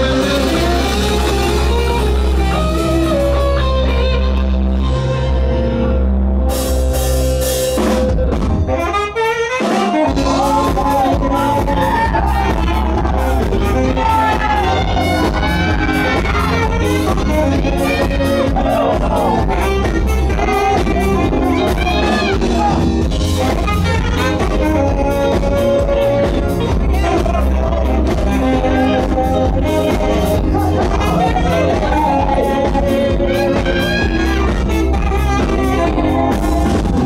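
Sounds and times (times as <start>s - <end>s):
loud music with heavy bass: 0.0s - 37.0s.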